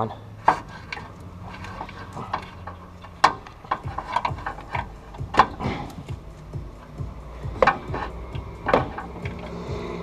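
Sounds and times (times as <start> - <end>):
metal clicks and clunks: 0.0 - 10.0.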